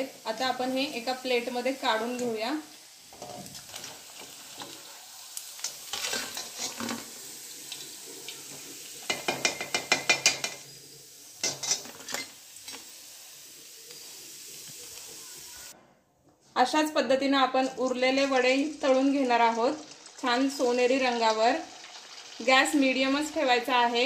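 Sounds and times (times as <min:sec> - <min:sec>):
food sizzling in hot oil: 0:00.0 - 0:15.8, 0:17.2 - 0:24.0.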